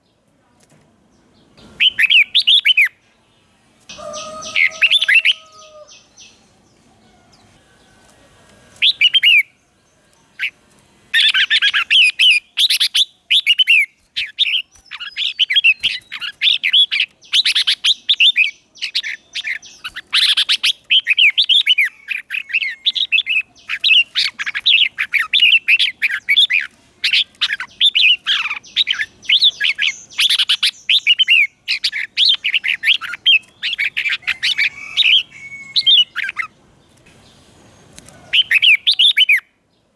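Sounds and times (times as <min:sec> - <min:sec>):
bulbul singing: 0:01.6 - 0:03.0, 0:08.7 - 0:39.6.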